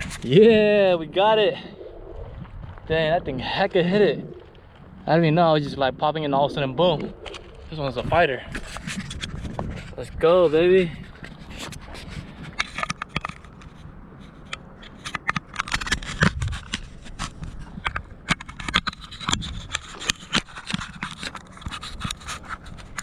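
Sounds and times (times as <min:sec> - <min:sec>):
fish and tackle scraping: 0:00.0 - 0:23.0.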